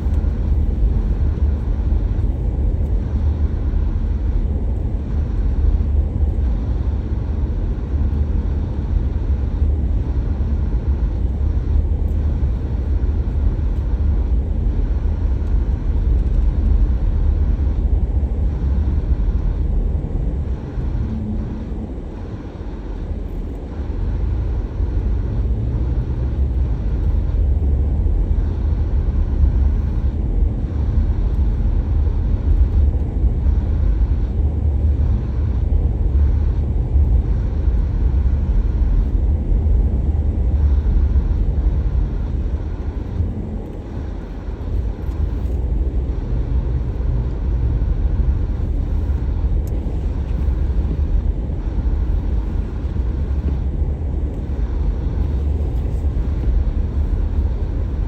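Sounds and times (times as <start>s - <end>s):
car interior rumble: 0.0s - 58.0s.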